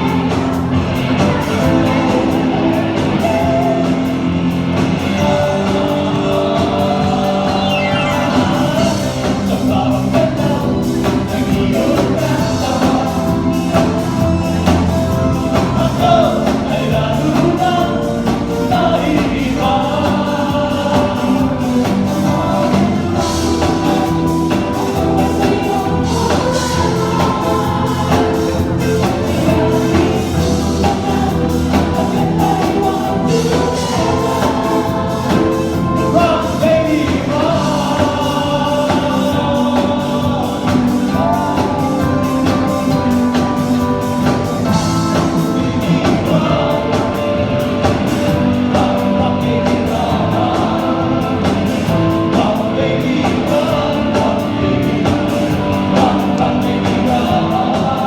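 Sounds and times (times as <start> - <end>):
live band playing disco-rock: 0.0 - 58.0
person singing: 0.0 - 58.0.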